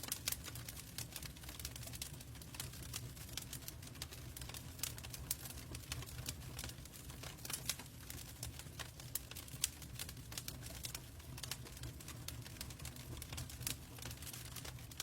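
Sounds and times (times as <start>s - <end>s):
low rumble of flames: 0.2s - 15.0s.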